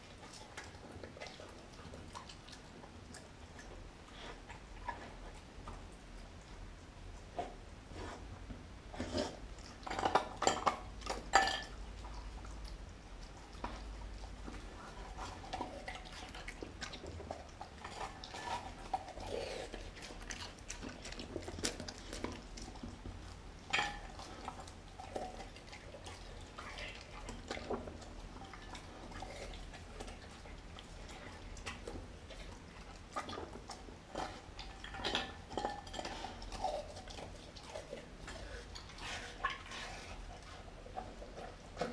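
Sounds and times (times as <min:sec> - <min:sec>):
dog chewing meat: 0:00.0 - 0:41.9.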